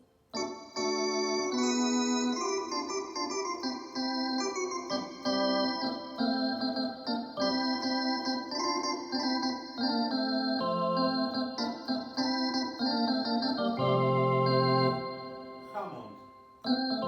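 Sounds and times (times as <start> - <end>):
synthesizer organ-like chords: 0.0 - 17.0.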